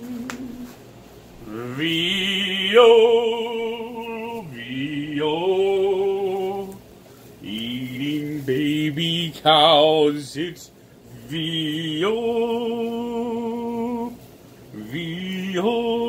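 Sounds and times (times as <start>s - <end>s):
man singing held notes: 1.4s - 16.0s.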